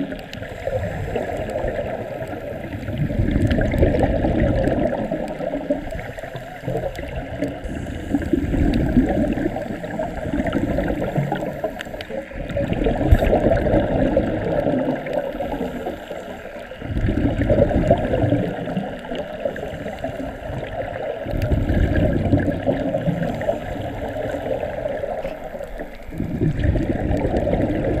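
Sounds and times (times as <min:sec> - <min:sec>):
underwater exhaust bubbling: 0:00.0 - 0:28.0.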